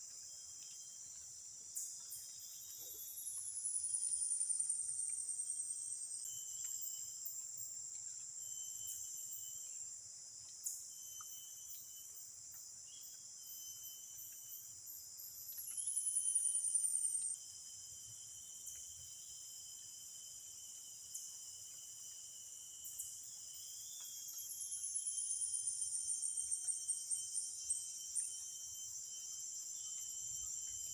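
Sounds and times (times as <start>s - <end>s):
high-pitched insect chorus: 0.0s - 30.9s
short insect chirps: 0.0s - 30.9s.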